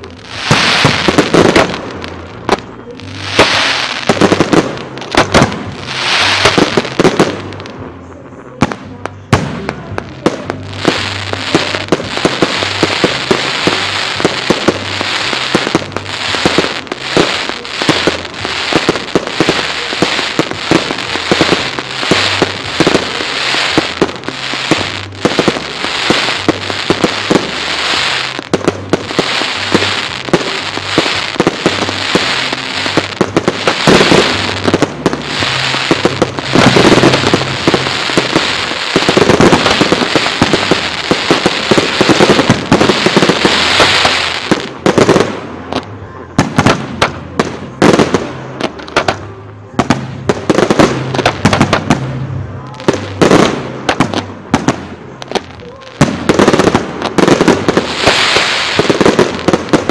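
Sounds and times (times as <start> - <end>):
fireworks crackling: 0.0 - 59.9
fireworks launching and bursting: 0.0 - 59.9
heavy fireworks bangs: 0.0 - 59.9.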